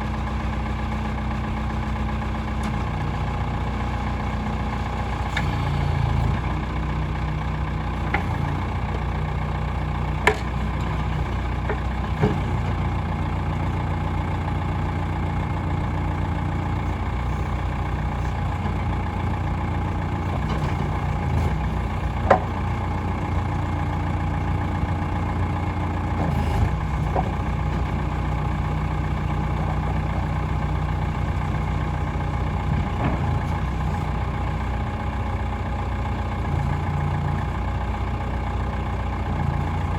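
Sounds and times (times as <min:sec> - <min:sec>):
backhoe engine idling: 0:00.0 - 0:39.9.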